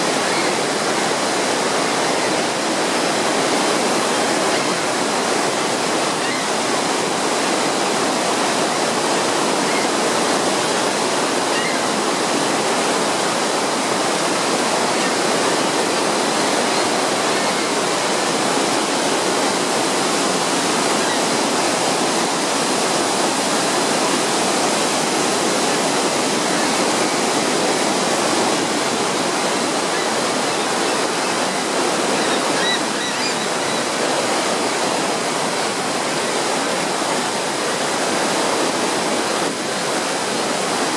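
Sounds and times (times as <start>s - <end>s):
waterfall crashing onto rocks: 0.0s - 40.9s.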